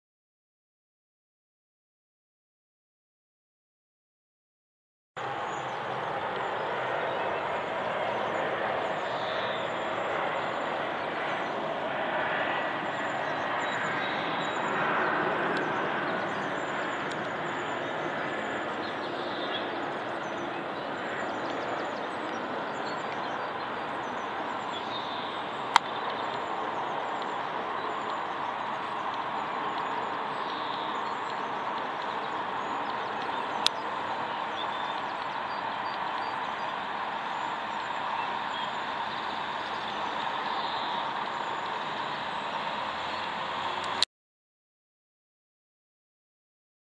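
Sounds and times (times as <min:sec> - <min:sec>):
jet airliner passing overhead: 0:05.2 - 0:44.0.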